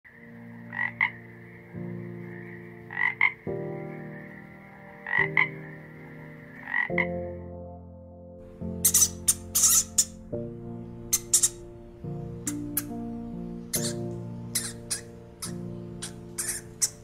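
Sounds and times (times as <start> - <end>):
short croaking calls: 0.1 - 7.3, 8.7 - 17.0
soft sustained music chords: 0.1 - 17.0.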